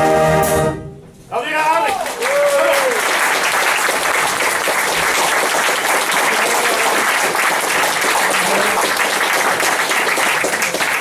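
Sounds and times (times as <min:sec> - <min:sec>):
audience applause: 0:01.8 - 0:11.0.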